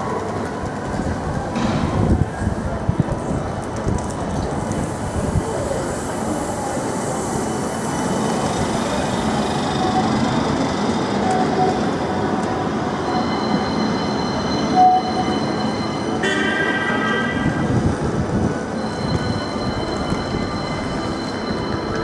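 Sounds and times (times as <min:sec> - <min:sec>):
tram wheels and motors rumbling: 0:00.0 - 0:22.0.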